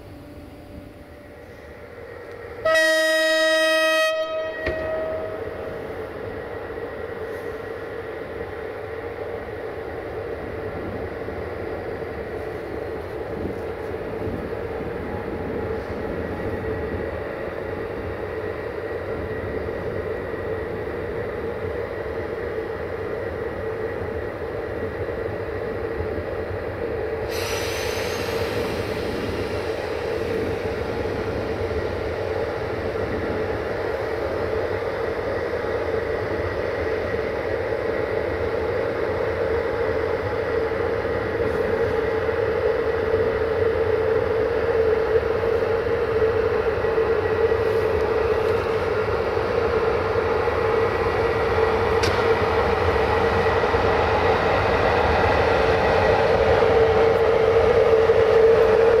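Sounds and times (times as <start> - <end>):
electric locomotive humming: 0.0 - 59.0.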